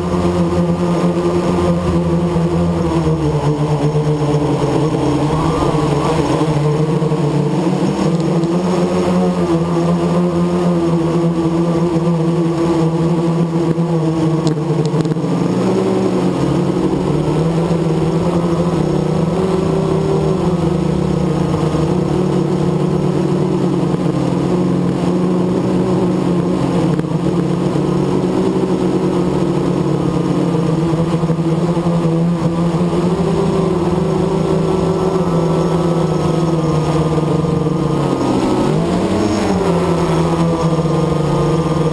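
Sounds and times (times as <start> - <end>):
quadcopter propellers droning: 0.0 - 41.9.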